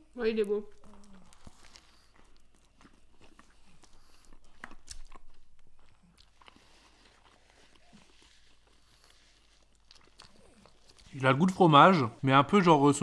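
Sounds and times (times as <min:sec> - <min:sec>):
person chewing bread: 0:00.4 - 0:13.0.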